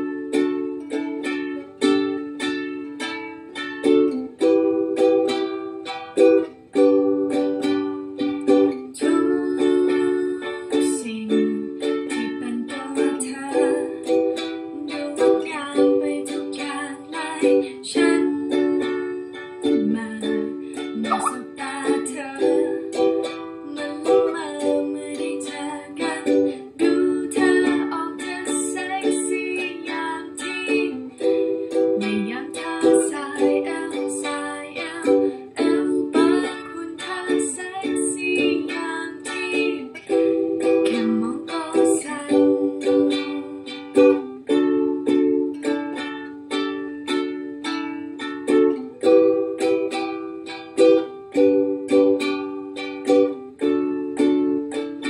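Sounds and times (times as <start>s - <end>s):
ukulele strumming chords: 0.0s - 55.0s.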